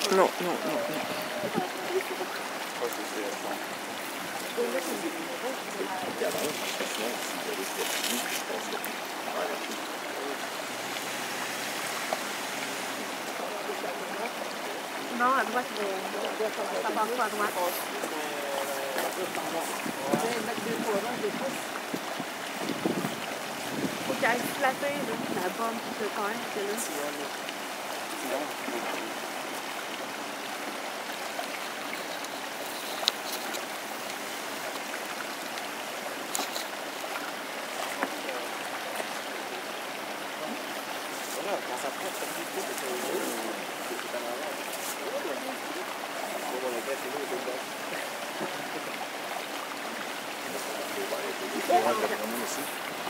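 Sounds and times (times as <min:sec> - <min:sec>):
creek running over rocks: 0:00.0 - 0:53.0.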